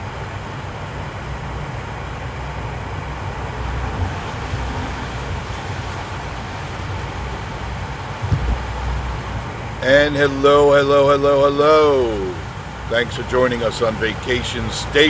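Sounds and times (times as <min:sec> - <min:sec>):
cabin fan hiss: 0:00.0 - 0:15.0
engine and road rumble: 0:00.0 - 0:15.0.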